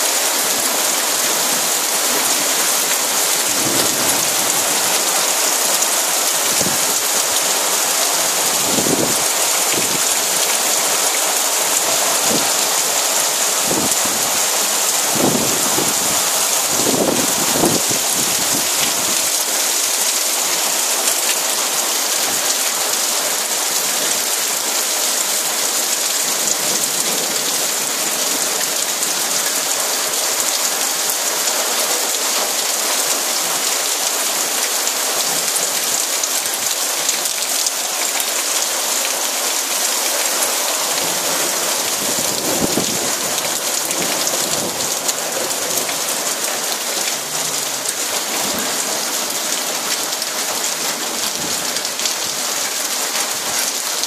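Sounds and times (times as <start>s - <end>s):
heavy rain on pavement: 0.0s - 54.0s
raindrops splashing into water: 0.0s - 54.0s.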